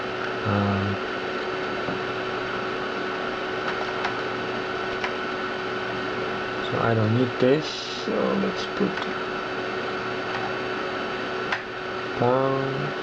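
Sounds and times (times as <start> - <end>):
computer hard drive whine: 0.0 - 13.0
short low hum: 0.0 - 13.0.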